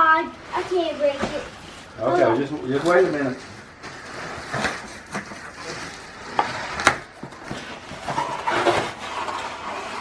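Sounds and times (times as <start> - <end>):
scraping and rustling of packaging: 0.0 - 10.0.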